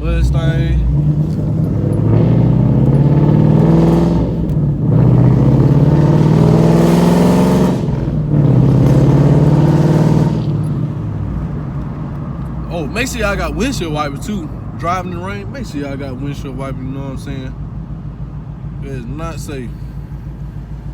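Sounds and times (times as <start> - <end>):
car engine accelerating: 0.0 - 20.9.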